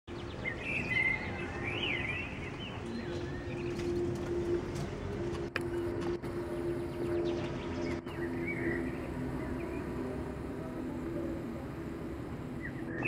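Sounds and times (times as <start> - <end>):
jet aircraft droning overhead: 0.1 - 13.0.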